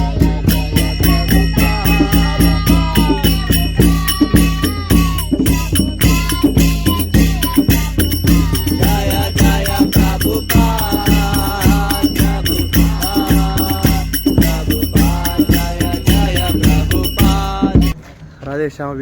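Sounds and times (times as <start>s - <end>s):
drum beat: 0.0s - 18.0s
jingling hand percussion: 0.0s - 18.0s.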